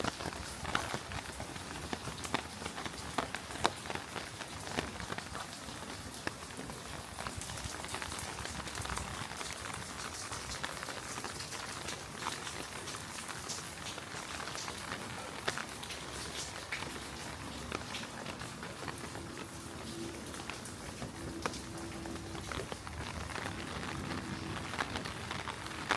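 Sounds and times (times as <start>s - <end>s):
heavy rain hissing: 0.0s - 25.9s
sharp raindrop ticks: 0.0s - 25.9s.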